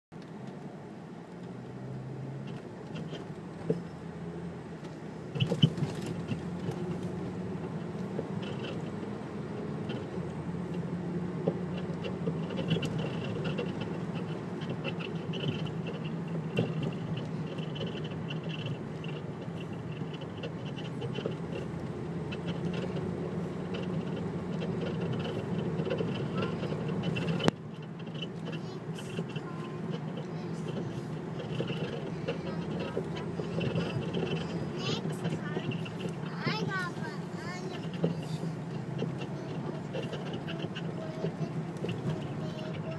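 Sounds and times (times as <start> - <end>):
car engine running: 0.1 - 42.9
metallic engine clatter: 1.4 - 42.9.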